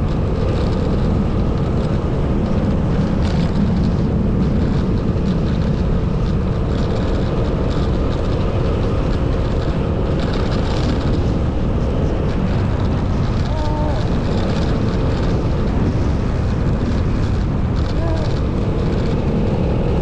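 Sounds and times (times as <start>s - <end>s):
motorcycle engine hum: 0.0s - 20.0s
wind and road noise: 0.0s - 20.0s.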